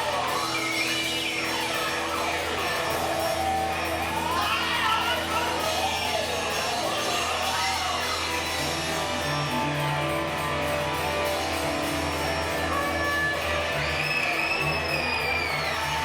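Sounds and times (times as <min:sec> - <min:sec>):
band playing: 0:00.0 - 0:16.0
bass line: 0:00.0 - 0:16.0
guitar: 0:00.0 - 0:16.0.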